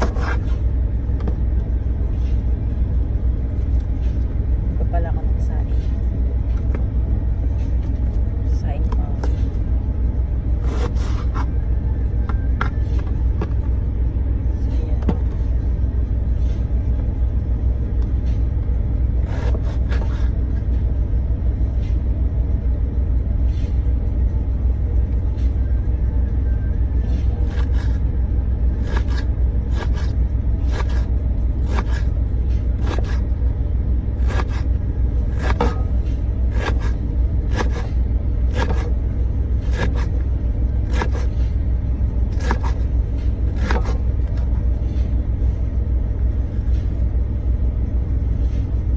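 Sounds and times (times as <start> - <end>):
truck engine rumbling: 0.0 - 48.9.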